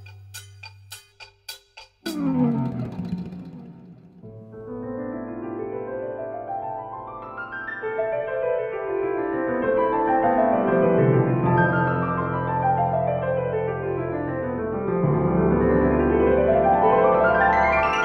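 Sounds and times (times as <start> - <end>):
piano music: 2.1 - 18.0.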